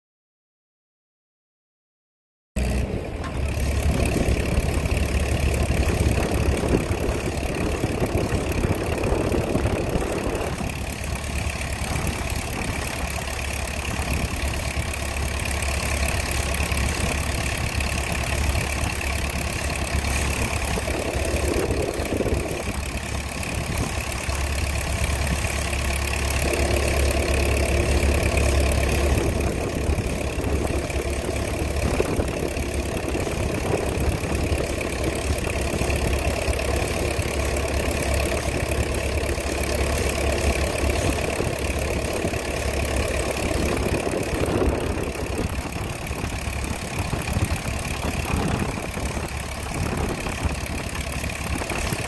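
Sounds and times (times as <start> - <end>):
engine running: 2.6 - 52.0
high whine: 2.8 - 52.0.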